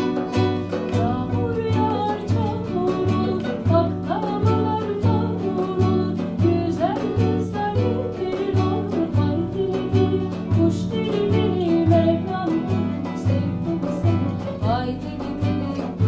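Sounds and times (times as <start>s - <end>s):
mandolin: 0.0s - 16.0s
plucked guitar: 0.0s - 16.0s.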